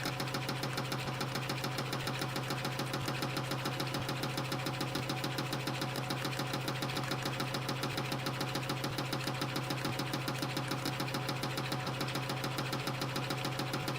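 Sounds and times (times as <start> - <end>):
motor hum: 0.0 - 13.9.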